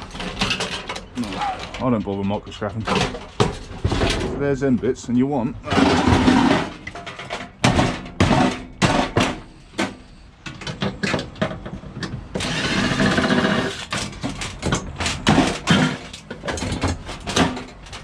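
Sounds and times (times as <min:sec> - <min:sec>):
metal parts clanking: 0:00.0 - 0:04.6, 0:05.6 - 0:18.0.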